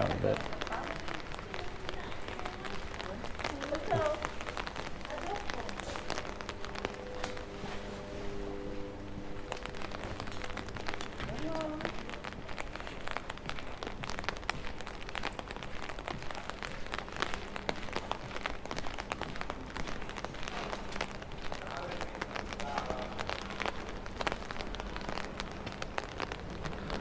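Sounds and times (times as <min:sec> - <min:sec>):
rain falling: 0:00.0 - 0:27.0
raindrops ticking: 0:00.0 - 0:27.0.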